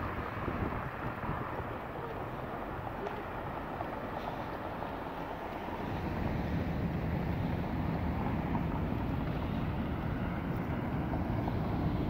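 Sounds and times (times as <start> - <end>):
traffic rumble: 0.0 - 12.0
wind buffeting microphone: 0.0 - 12.0.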